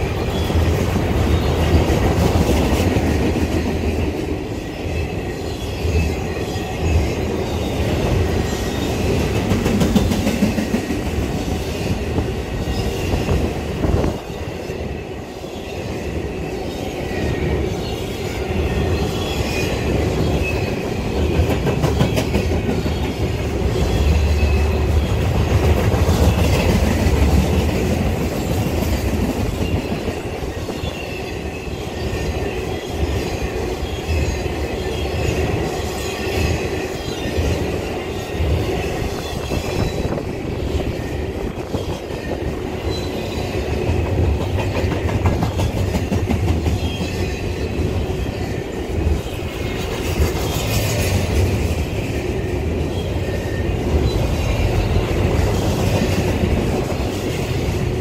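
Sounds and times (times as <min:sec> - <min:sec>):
train rolling rumble: 0:00.0 - 0:58.0
train wheels clattering on rails: 0:00.0 - 0:58.0.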